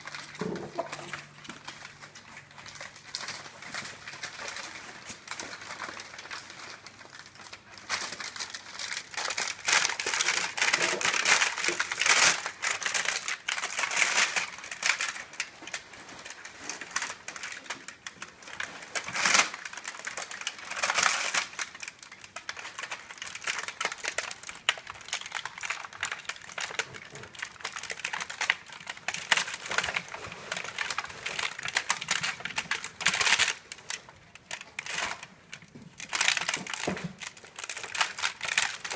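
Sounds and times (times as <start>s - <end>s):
plastic bags crinkling: 0.0s - 38.9s.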